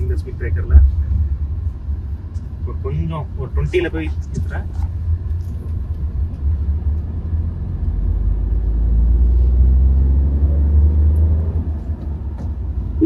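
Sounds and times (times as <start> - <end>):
car engine droning in cabin: 0.0 - 13.0.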